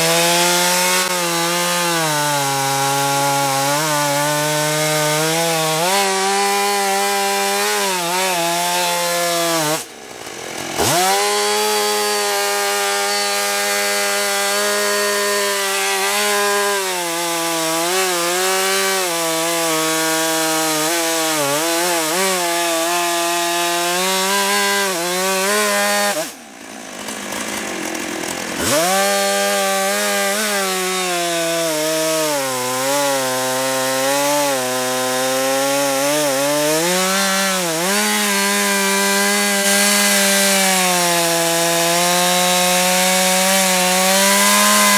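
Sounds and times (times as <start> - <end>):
chainsaw cutting a log: 0.0 - 44.9.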